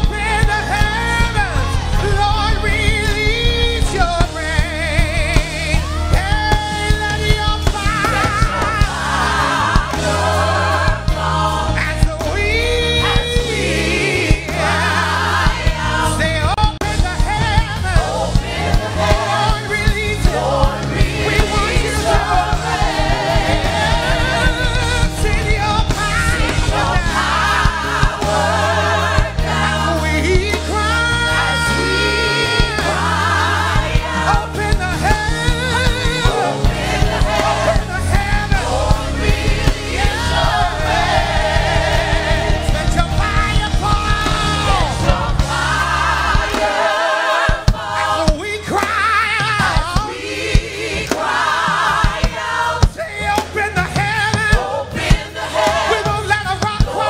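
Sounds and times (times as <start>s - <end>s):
bass: 0.0s - 57.0s
choir singing: 0.0s - 57.0s
steady drum beat: 0.0s - 57.0s.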